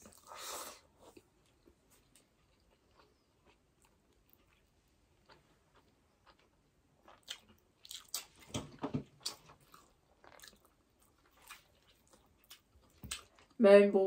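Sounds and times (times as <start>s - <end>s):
chewing with wet mouth clicks: 1.1s - 8.5s, 9.1s - 13.6s.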